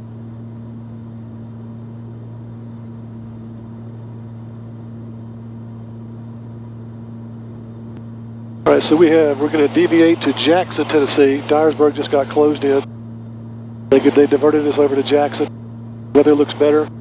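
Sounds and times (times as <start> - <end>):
propeller plane engines droning: 0.0 - 17.0.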